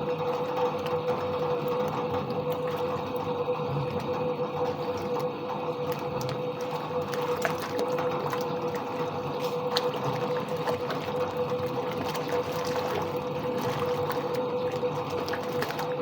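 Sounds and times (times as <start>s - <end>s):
washing machine motor hum: 0.0s - 16.0s
water sloshing in tub: 0.0s - 16.0s.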